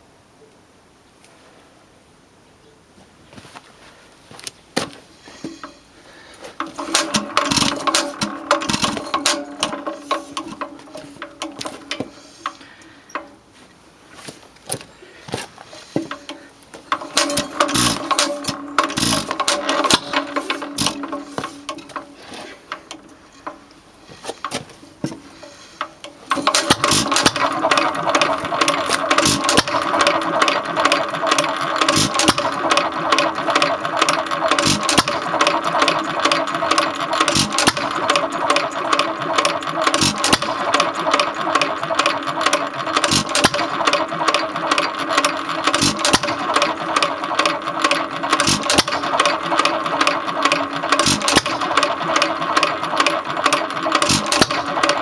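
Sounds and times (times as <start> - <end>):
stationary engine clattering: 6.5 - 13.4, 15.7 - 55.0.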